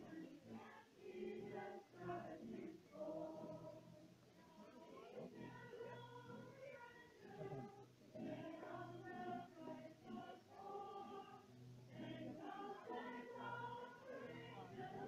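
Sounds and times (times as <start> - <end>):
voices singing together: 0.0 - 15.0.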